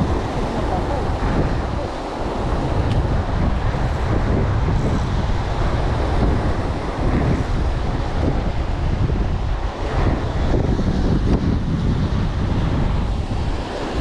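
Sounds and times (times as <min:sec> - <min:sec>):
surf breaking against rocks: 0:00.0 - 0:14.0
wind buffeting microphone: 0:00.0 - 0:14.0.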